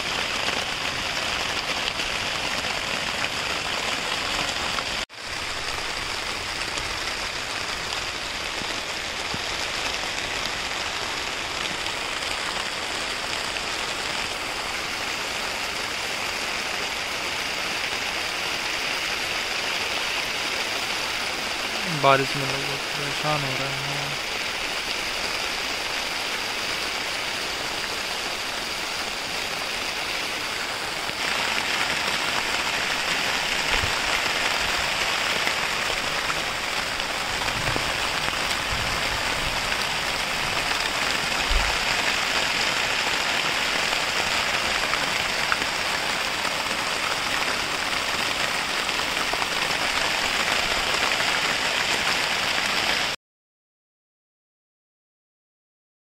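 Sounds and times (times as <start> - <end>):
steady rain hiss: 0.0 - 53.2.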